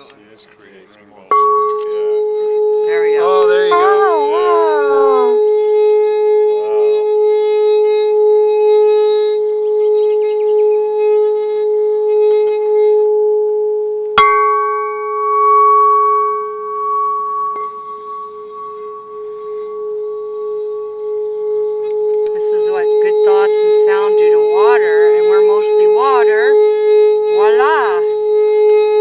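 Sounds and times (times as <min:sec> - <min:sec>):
higher ringing tone: 0:01.3 - 0:29.0
singing bowl tone: 0:01.3 - 0:29.0.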